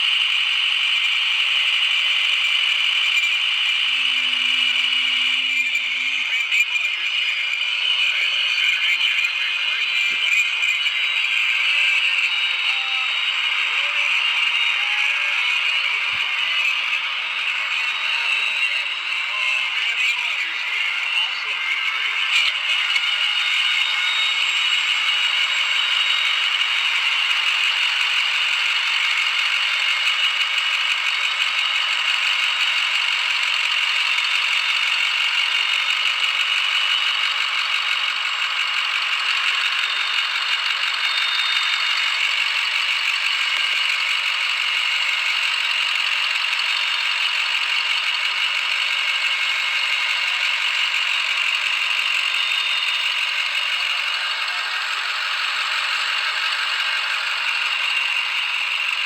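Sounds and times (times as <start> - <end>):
diesel engine clattering: 0.3 - 6.8, 9.9 - 59.0.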